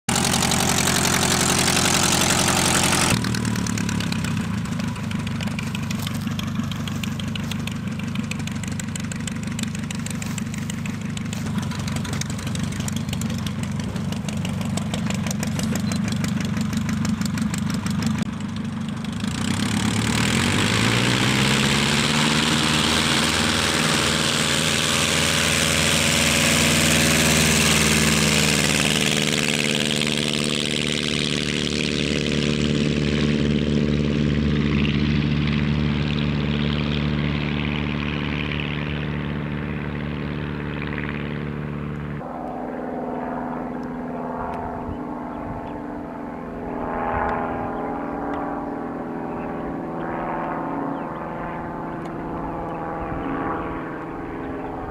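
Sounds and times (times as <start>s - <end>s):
propeller plane engine running: 0.0s - 54.9s.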